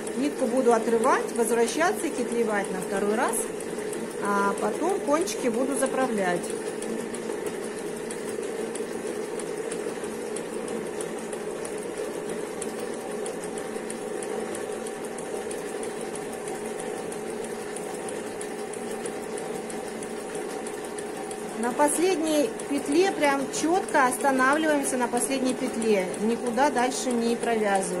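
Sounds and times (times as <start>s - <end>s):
linking machine humming and ticking: 0.0s - 28.0s.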